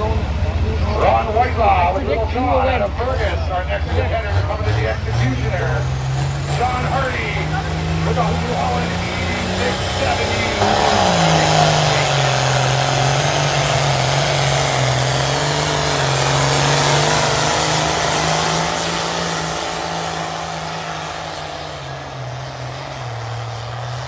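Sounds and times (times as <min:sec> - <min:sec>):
tractor diesel engine at full throttle: 0:00.0 - 0:24.0.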